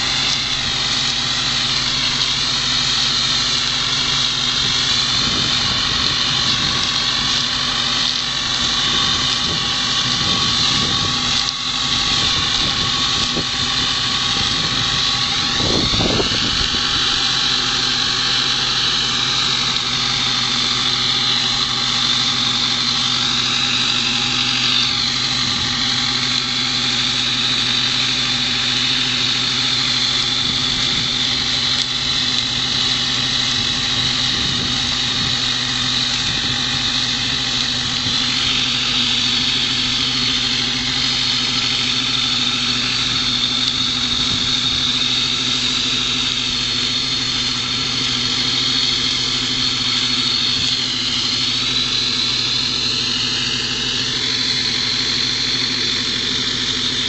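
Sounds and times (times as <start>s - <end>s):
hiss of slurry spraying: 0.0s - 57.0s
tractor diesel engine running: 0.0s - 57.0s.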